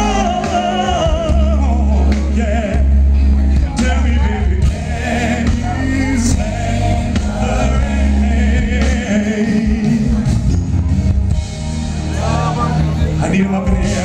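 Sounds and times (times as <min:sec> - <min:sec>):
man singing into a microphone: 0:00.0 - 0:10.5, 0:13.2 - 0:14.0
live band with heavy bass: 0:00.0 - 0:14.0.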